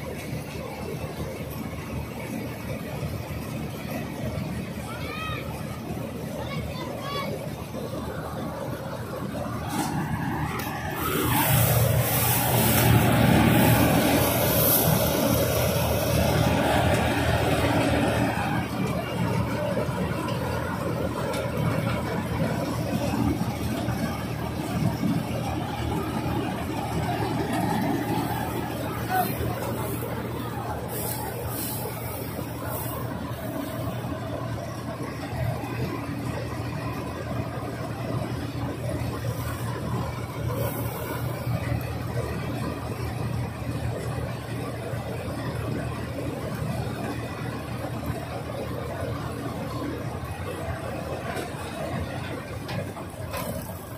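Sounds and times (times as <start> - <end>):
combine harvester engine under load: 0.0 - 53.9.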